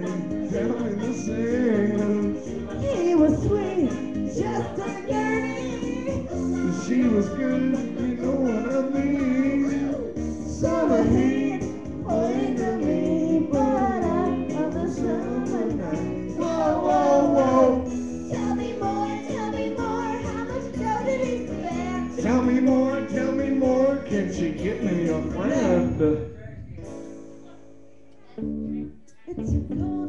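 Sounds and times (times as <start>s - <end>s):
person singing into a microphone: 0.0s - 25.8s, 29.1s - 30.0s
backing track music: 0.0s - 30.0s.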